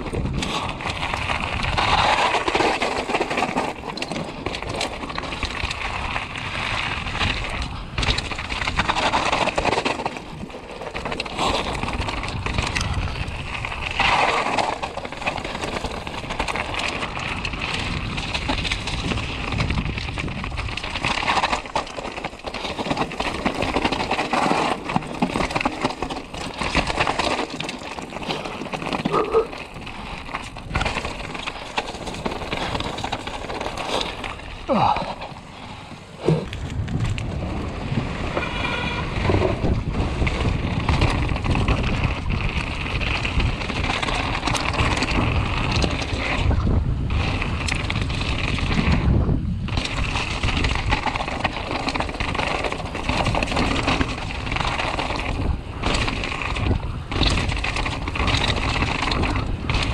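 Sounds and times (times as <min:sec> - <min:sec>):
bike knocking and rattling: 0:00.0 - 0:59.9
bike tyres crunching on gravel: 0:00.0 - 0:59.9.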